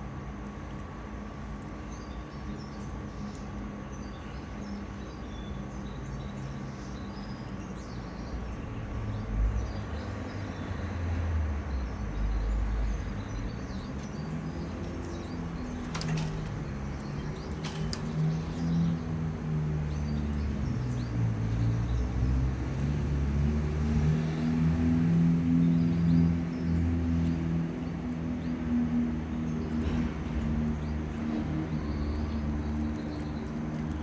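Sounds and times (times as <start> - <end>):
low rumbling background noise: 0.0 - 34.0
songbirds chirping: 0.0 - 34.0.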